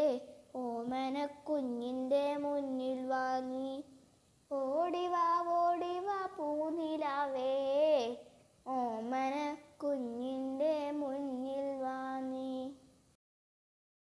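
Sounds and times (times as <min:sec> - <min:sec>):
child singing: 0:00.0 - 0:12.9.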